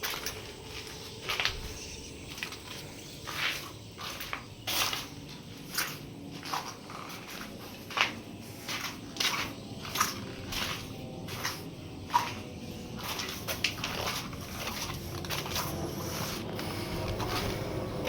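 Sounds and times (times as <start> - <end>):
footsteps on hard floor: 0.0 - 17.7.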